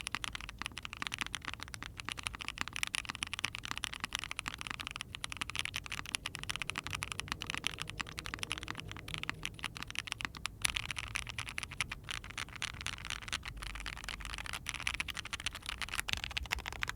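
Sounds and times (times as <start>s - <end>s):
mechanical keyboard typing: 0.0s - 16.9s.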